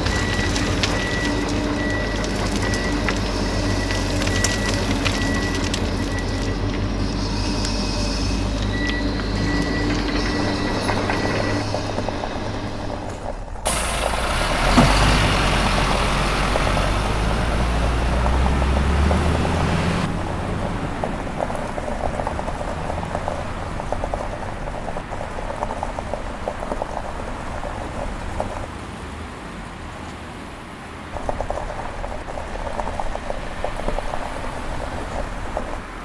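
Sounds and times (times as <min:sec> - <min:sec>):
crackling: 0:00.0 - 0:28.7, 0:31.1 - 0:36.0
engine rumble with hiss: 0:00.0 - 0:36.0.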